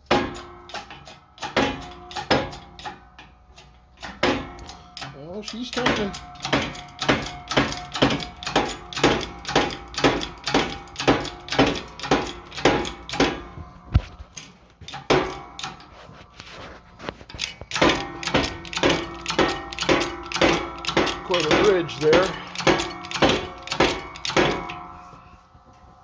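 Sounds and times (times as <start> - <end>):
sharp metallic knocks: 0.0 - 13.8, 14.9 - 15.9, 17.4 - 25.1.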